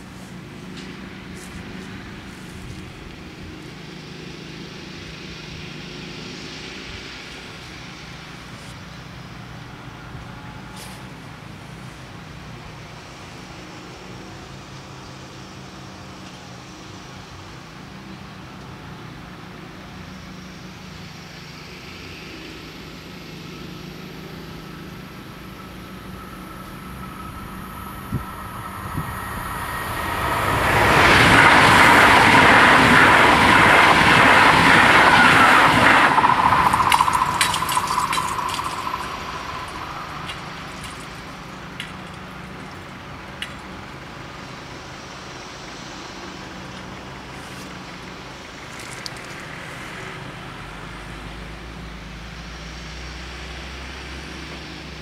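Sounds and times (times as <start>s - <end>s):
high-speed train passing: 0.0s - 48.7s.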